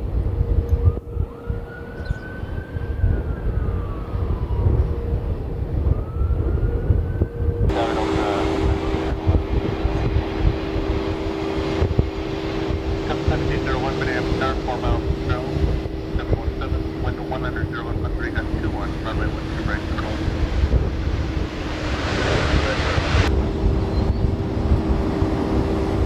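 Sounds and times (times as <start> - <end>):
jet engine noise: 0.0 - 26.0
steady hum: 2.8 - 26.0.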